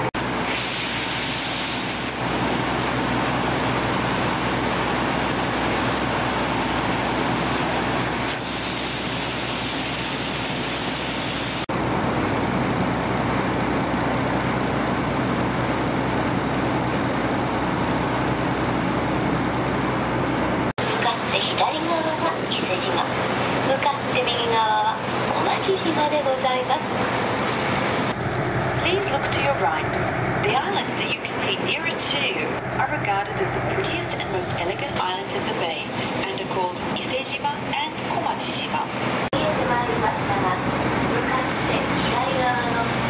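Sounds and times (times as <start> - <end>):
churning wake: 0.0 - 43.0
boat engine running: 1.4 - 43.0.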